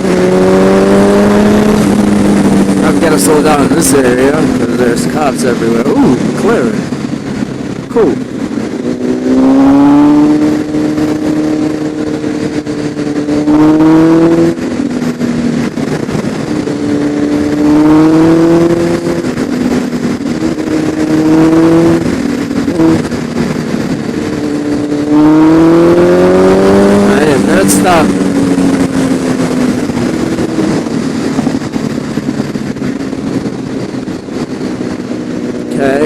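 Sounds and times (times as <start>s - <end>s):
motorcycle engine accelerating: 0.0s - 36.0s
steady rush of noise: 0.0s - 36.0s.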